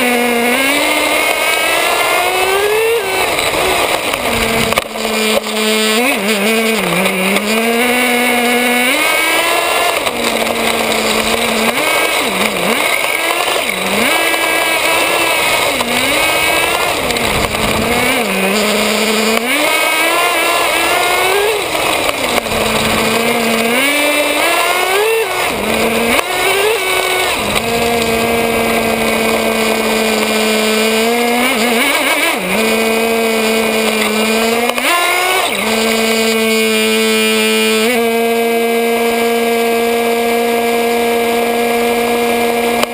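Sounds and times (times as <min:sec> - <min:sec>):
small engine buzzing: 0:00.0 - 0:42.9.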